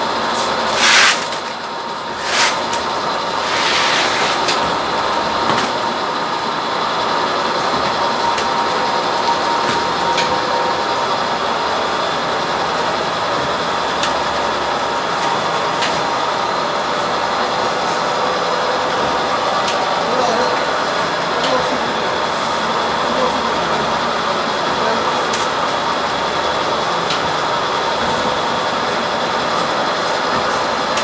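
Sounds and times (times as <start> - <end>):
packing machine running: 0.0 - 31.0.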